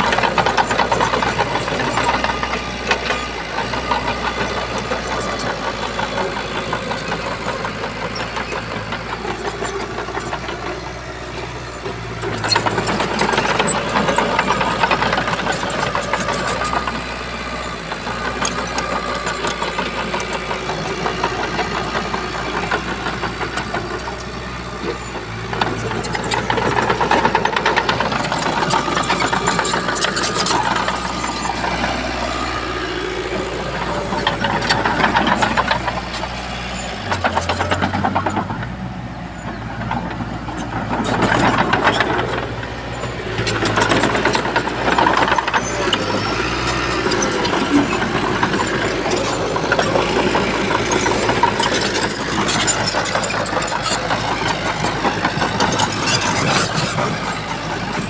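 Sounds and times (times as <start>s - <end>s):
rattling clatter: 0.0s - 38.8s, 39.4s - 58.0s
bulldozer diesel engine under load: 0.0s - 58.0s.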